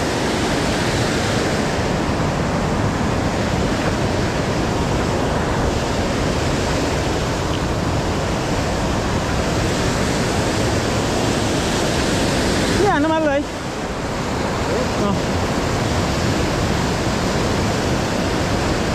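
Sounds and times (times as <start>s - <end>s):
river rushing through rapids: 0.0s - 18.9s.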